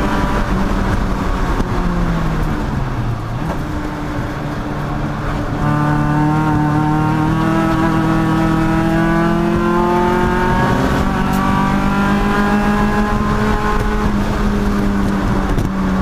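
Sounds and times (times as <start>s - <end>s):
race car engine: 0.0s - 16.0s.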